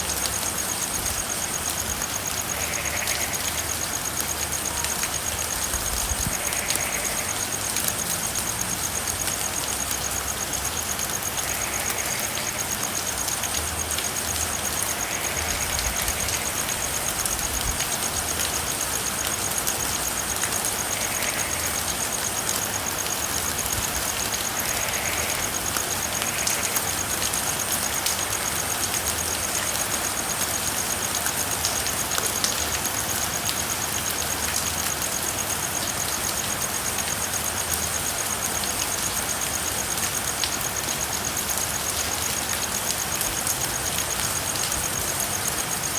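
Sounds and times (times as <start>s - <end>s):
faint frog calls: 0.0s - 45.9s
steady rain falling: 0.0s - 45.9s.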